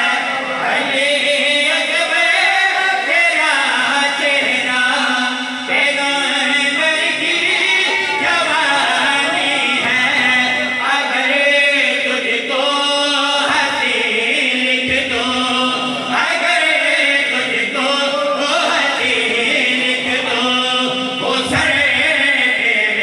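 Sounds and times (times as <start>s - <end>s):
man chanting over loudspeakers: 0.0s - 23.0s.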